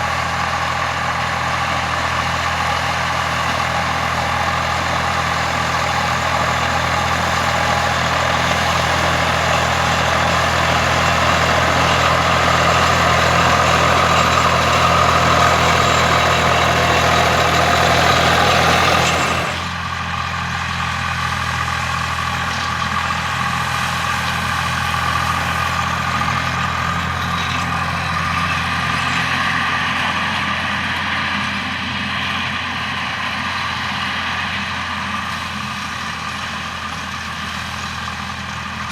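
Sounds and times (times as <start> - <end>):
tractor diesel engine drone: 0.0 - 38.9.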